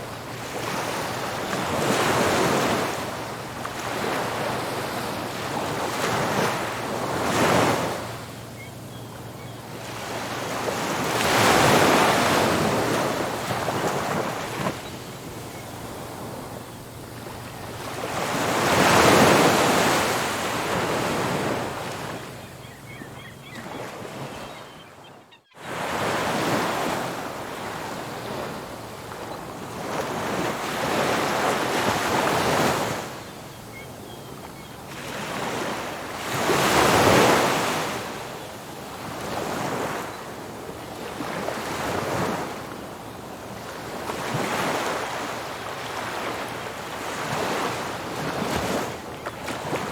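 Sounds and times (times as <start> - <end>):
waves breaking on a beach: 0.0 - 24.6, 25.6 - 49.9.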